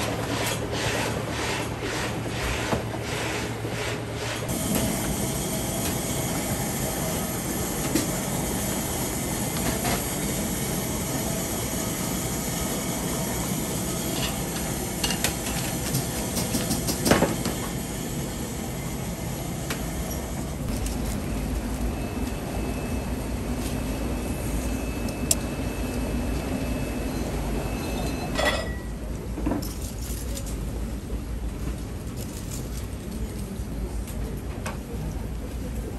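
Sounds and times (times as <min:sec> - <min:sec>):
kitchen machinery running: 0:00.0 - 0:31.0.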